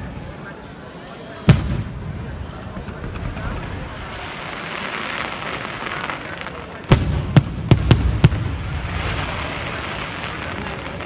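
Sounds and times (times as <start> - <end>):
fireworks bangs: 1.4 - 11.0.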